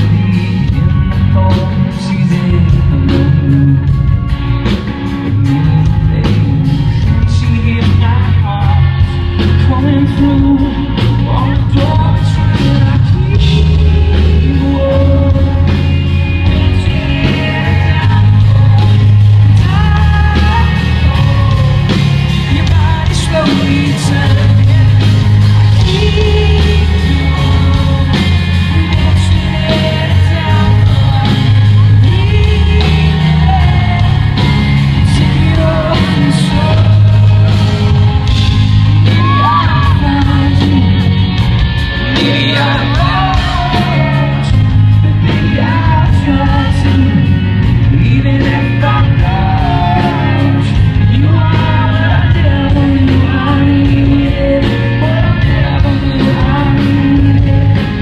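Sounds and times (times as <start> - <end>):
heavy bass notes: 0.0 - 58.0
person singing: 0.0 - 58.0
rock band playing live: 0.0 - 58.0.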